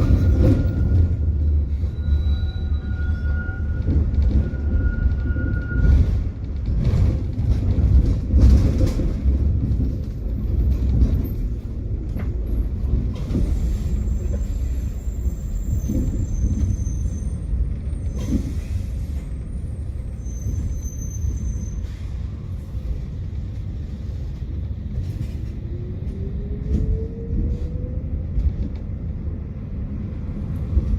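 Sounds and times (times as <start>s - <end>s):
tram wheels rumbling: 0.0s - 30.9s.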